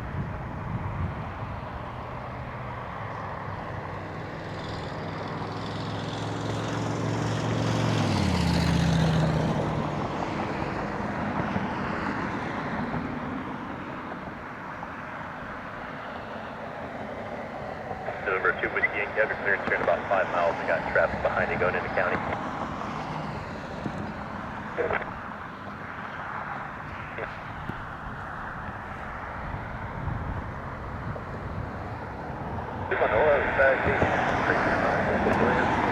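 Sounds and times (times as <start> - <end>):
jet airliner passing by: 0.0 - 35.9.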